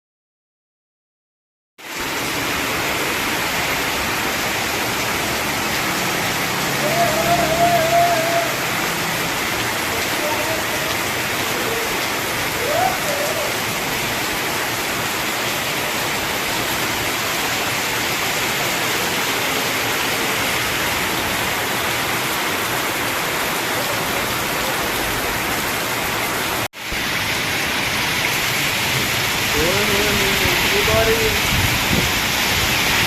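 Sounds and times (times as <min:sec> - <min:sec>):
steady rain falling: 0:01.8 - 0:33.0.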